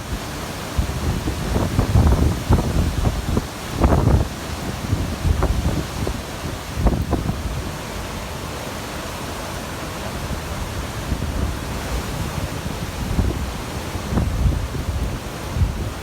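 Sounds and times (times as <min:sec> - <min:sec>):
wind buffeting microphone: 0:00.0 - 0:08.2, 0:10.2 - 0:16.0
surf rushing: 0:00.0 - 0:16.0
wind: 0:00.0 - 0:16.0.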